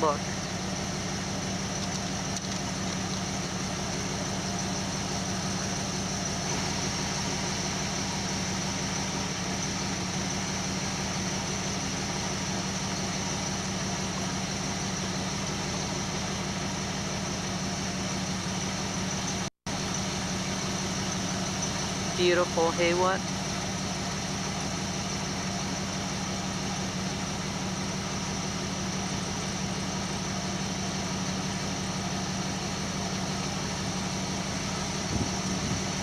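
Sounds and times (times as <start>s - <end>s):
vehicle engine idling: 0.0s - 36.0s.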